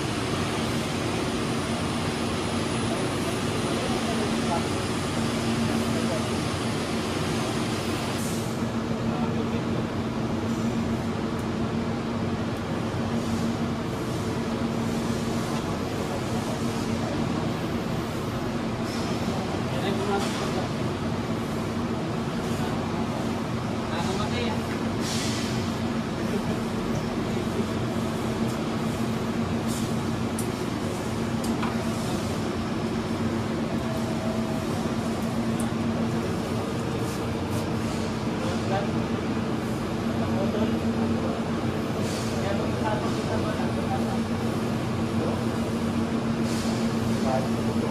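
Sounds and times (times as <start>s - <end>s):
fans running: 0.0s - 47.9s.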